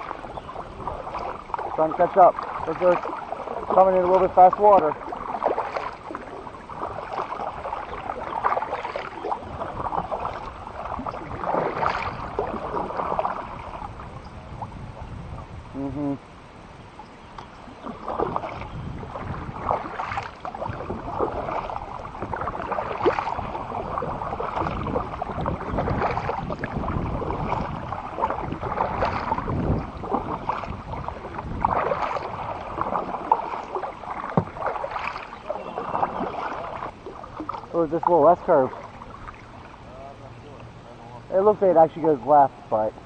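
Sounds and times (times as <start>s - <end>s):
irregular water splashes: 0.0s - 43.0s
water rushing around hull: 0.0s - 43.0s.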